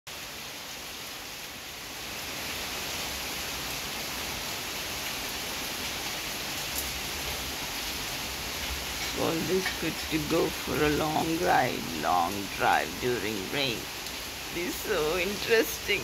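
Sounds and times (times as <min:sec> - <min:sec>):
heavy rain on leaves and pavement: 0:00.1 - 0:16.0.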